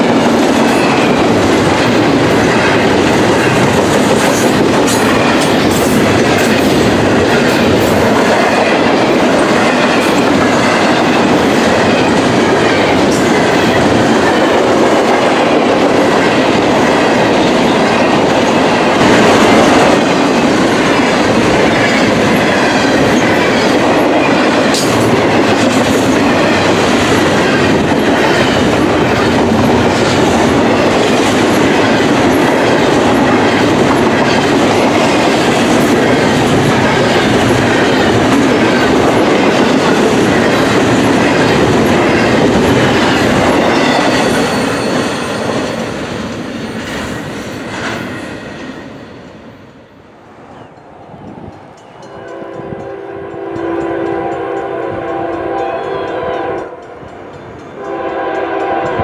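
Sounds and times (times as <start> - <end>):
train wheel clicks: 0.0 - 48.6, 51.0 - 59.0
train wheels rumbling on rail: 0.0 - 59.0.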